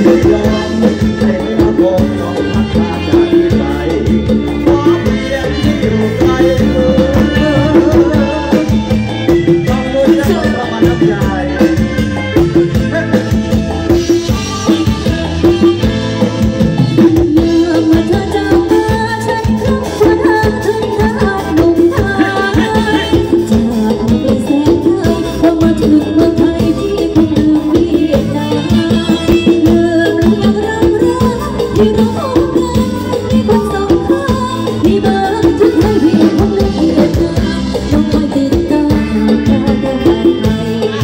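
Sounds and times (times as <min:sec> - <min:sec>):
woman singing: 0:00.0 - 0:11.6, 0:16.8 - 0:41.0
drum kit steady beat: 0:00.0 - 0:41.0
live dance band music: 0:00.0 - 0:41.0.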